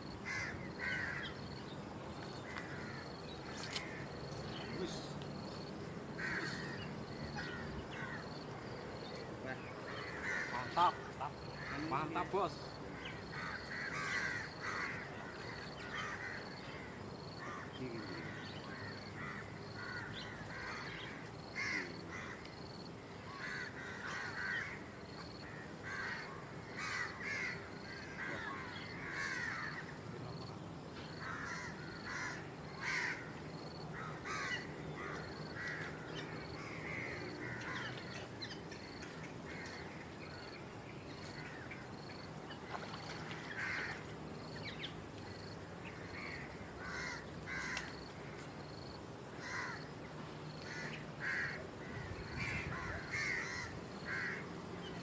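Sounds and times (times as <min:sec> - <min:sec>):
birds calling: 0:00.0 - 0:30.0, 0:30.8 - 0:55.0.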